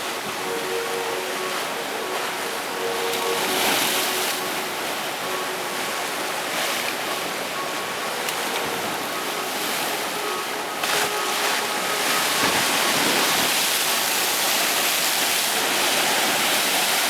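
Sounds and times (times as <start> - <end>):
sea waves breaking: 0.0 - 17.0.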